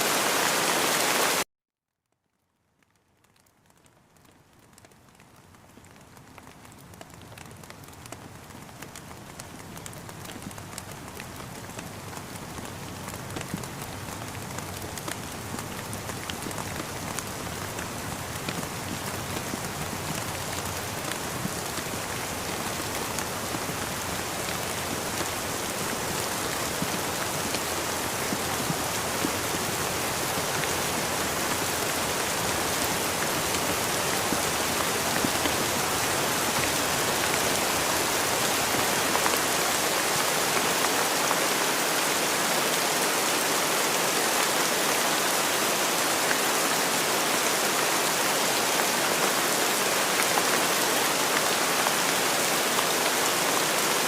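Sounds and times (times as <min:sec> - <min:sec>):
rain pattering: 0:02.1 - 0:54.0.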